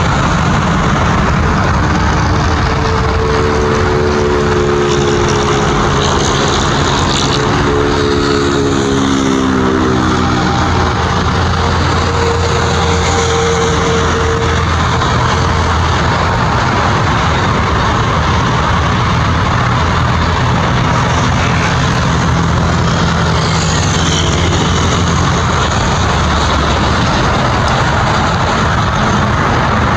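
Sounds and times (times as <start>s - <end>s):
jet engines at takeoff power: 0.0s - 29.9s.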